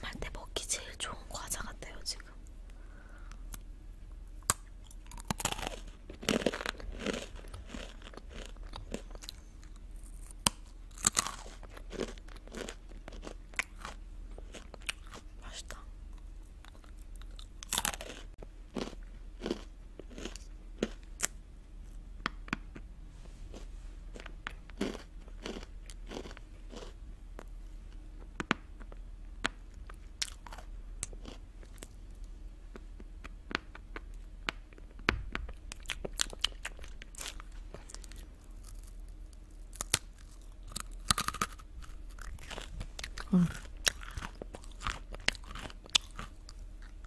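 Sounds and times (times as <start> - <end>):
crunching and chewing pretzels: 0.0 - 47.0.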